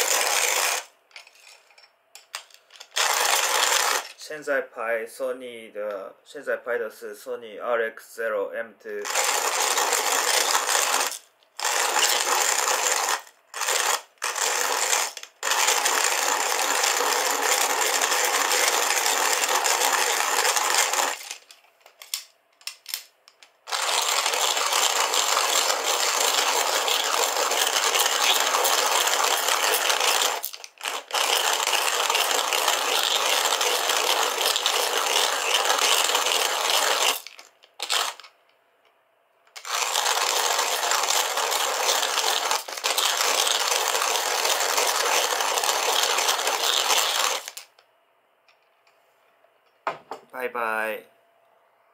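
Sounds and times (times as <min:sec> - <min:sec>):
hand coffee mill grinding: 0:00.0 - 0:04.2, 0:09.0 - 0:38.3, 0:39.5 - 0:47.7.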